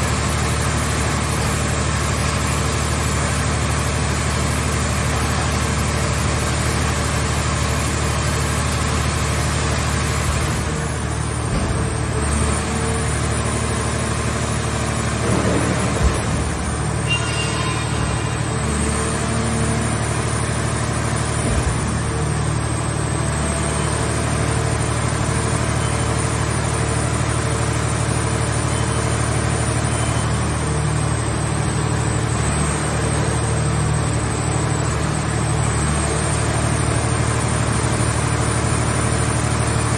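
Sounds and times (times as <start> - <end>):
hydraulic power unit humming: 7.4 - 39.9.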